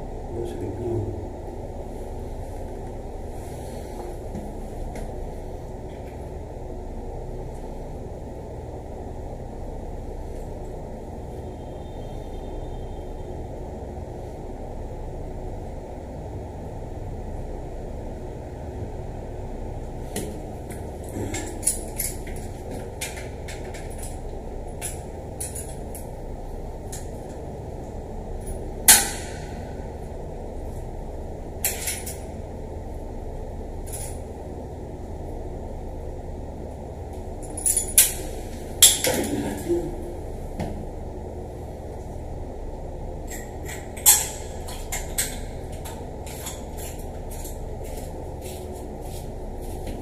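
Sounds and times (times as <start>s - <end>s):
low background noise: 0.0s - 50.0s
steady low hum: 0.0s - 50.0s.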